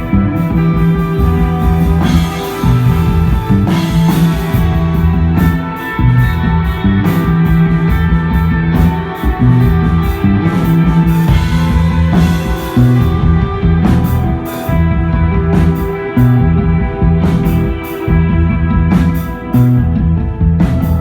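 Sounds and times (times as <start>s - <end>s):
bass low notes: 0.0s - 21.0s
drum kit with cymbal hits: 0.0s - 21.0s
electric guitar: 0.0s - 21.0s.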